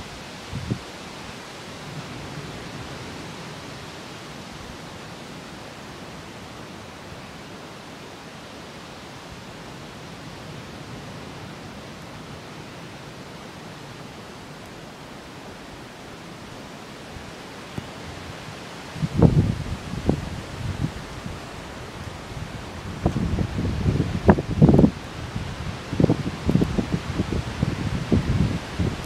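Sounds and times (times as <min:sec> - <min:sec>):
outdoor hiss: 0:00.0 - 0:29.0.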